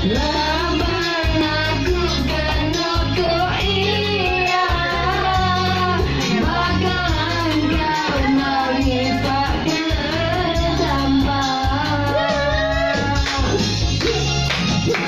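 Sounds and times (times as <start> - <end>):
backing track with bass: 0.0 - 15.0
person singing karaoke: 0.0 - 15.0.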